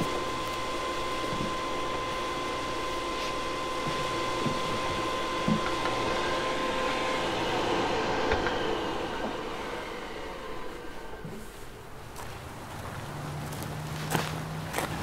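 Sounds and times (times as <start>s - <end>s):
small motor whirring: 0.0s - 12.4s.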